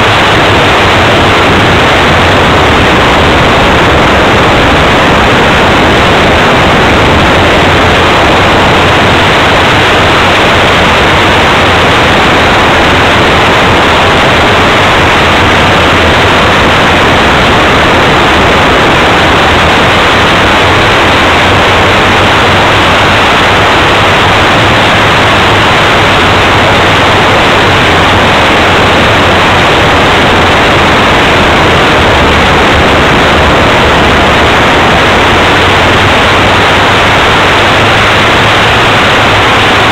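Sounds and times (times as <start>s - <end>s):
model plane propeller and airflow: 0.0s - 39.9s.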